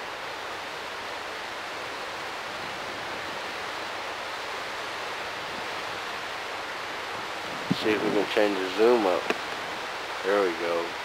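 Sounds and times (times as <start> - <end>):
floodwater rushing through floodgates: 0.0 - 11.0.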